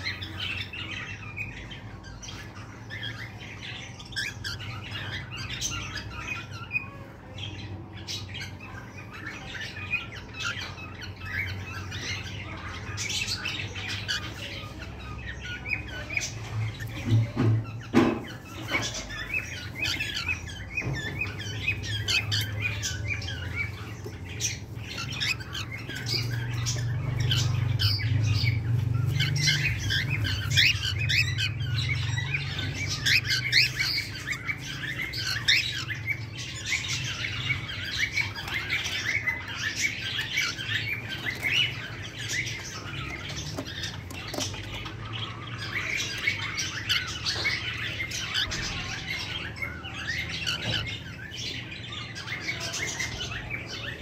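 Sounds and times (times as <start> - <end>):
birds chirping rapidly: 0.0 - 54.0.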